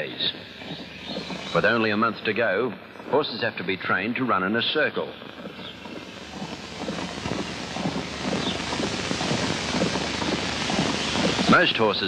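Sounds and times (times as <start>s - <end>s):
horse galloping on dirt: 0.0s - 12.0s
steady rushing noise: 0.0s - 12.0s.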